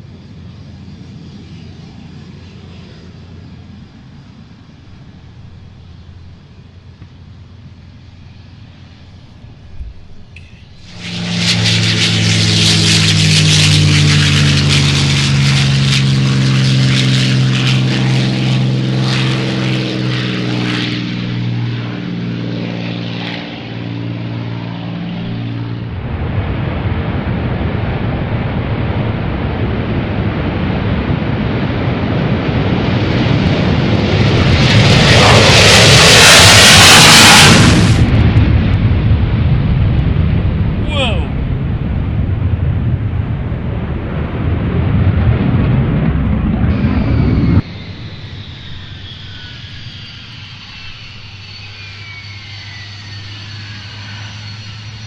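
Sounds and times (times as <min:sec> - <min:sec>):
aircraft engines droning: 0:00.0 - 0:55.0.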